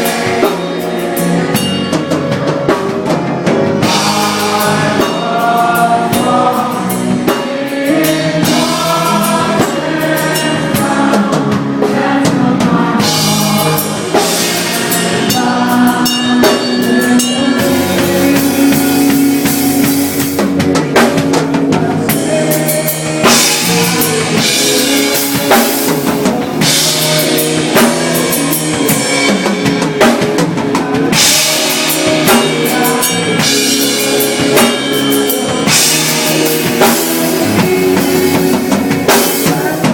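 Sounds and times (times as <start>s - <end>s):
band playing loud music: 0.0s - 39.9s.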